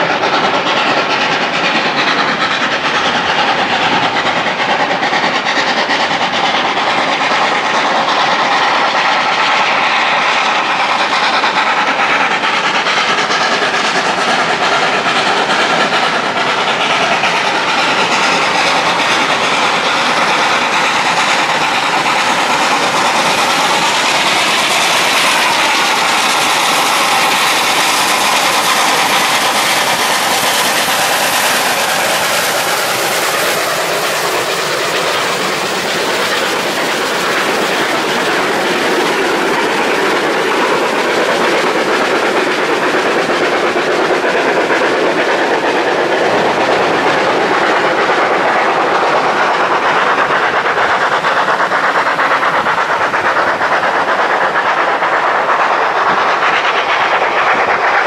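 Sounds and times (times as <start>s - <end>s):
steam train passing: 0.0s - 58.0s.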